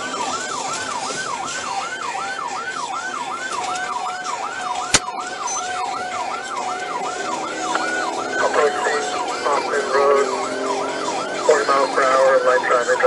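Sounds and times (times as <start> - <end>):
police siren yelping: 0.0 - 13.0.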